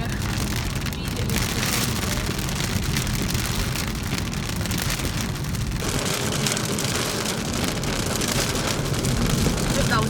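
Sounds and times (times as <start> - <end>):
low rumble: 0.0 - 10.0
rain pattering: 0.0 - 10.0.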